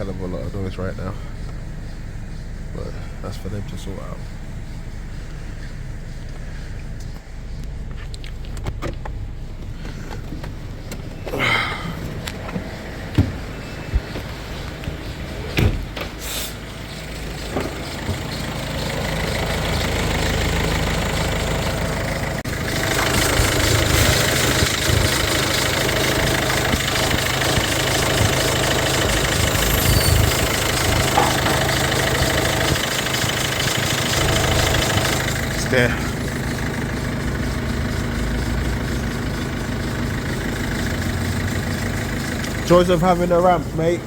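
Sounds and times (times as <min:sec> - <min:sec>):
car engine running: 0:00.0 - 0:44.0
noisy drive belt: 0:08.5 - 0:44.0.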